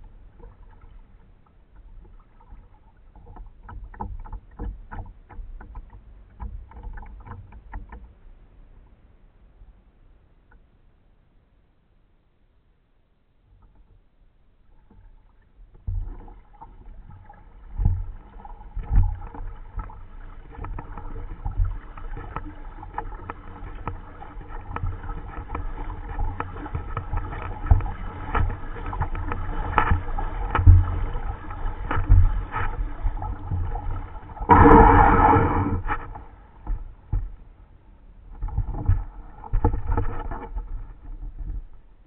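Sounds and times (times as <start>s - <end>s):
water sloshing against kayak hull: 0.0s - 9.0s, 13.5s - 42.0s.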